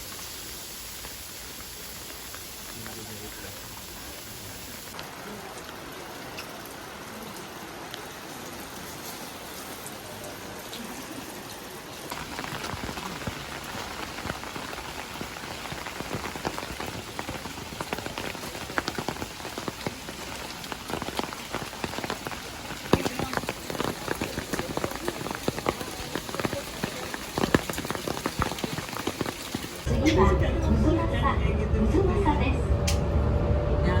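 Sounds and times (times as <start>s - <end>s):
raindrops ticking on surface: 0.0s - 29.9s
steady rain: 0.0s - 29.9s.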